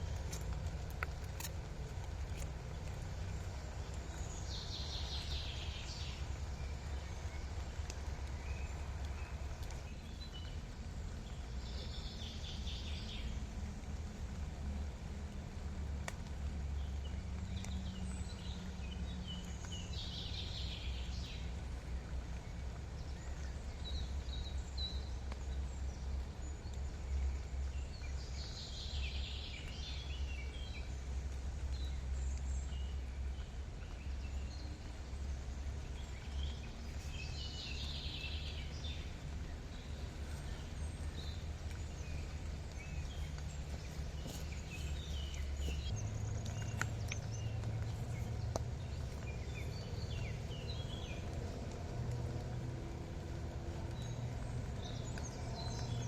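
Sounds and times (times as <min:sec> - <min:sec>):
birds chirping: 0:00.0 - 0:13.6, 0:16.4 - 0:56.0
steady low rumble: 0:00.0 - 0:19.8, 0:30.4 - 0:56.0.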